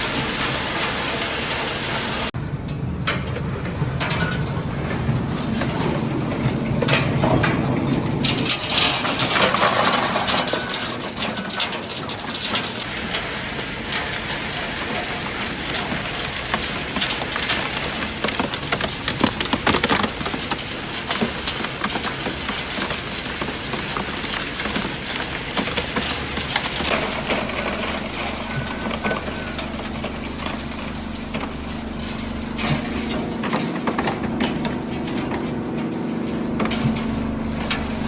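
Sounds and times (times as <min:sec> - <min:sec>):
recycling machinery running: 0:00.0 - 0:38.0
clatter of small impacts: 0:02.6 - 0:38.0.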